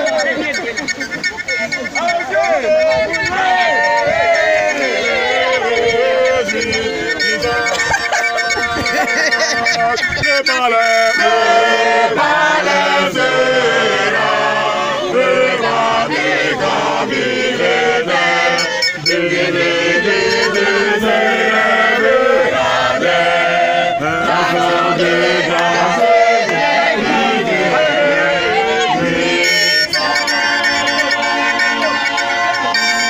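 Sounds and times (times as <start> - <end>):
church choir singing: 2.9 - 33.0.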